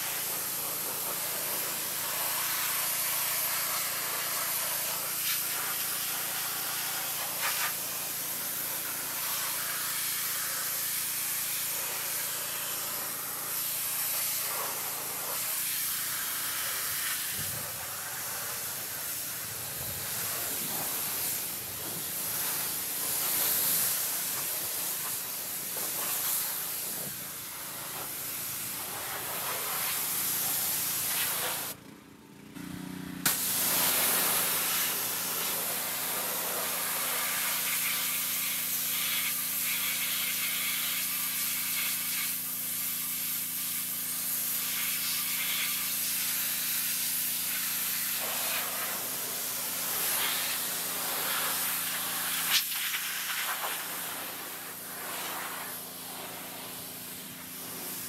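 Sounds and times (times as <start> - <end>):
pressure washer spraying: 0.0 - 31.8, 32.6 - 58.0.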